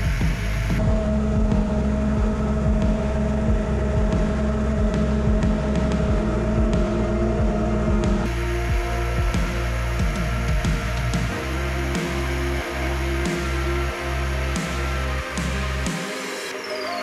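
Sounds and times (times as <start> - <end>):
quadcopter motors whining: 0.0 - 16.9.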